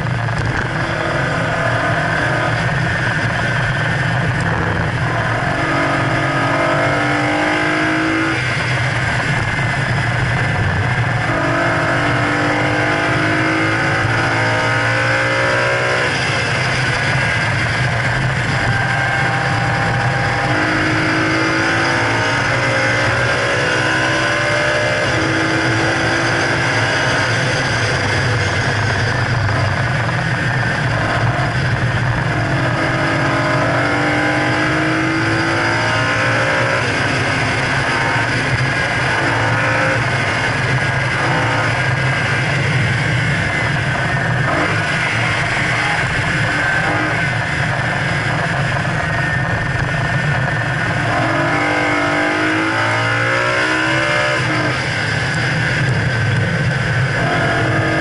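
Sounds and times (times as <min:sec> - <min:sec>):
car engine revving hard: 0:00.0 - 0:58.0
road and wind noise: 0:00.0 - 0:58.0.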